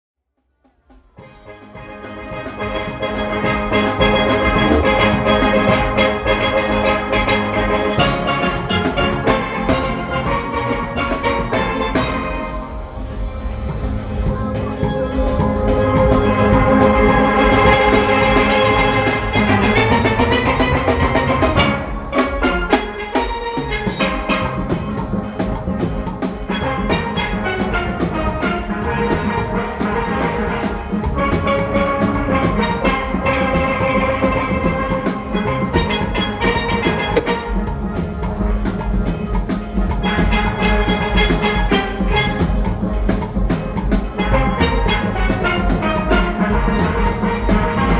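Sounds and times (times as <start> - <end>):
drums keeping a steady beat: 0.7 - 47.9
steel pans playing a tune: 1.2 - 47.9.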